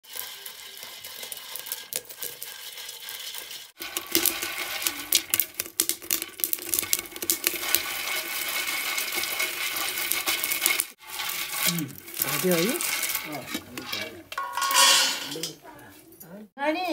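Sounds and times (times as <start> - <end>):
maize kernels popping: 0.0 - 15.6
sticks stirring kernels in a pot: 0.0 - 15.6.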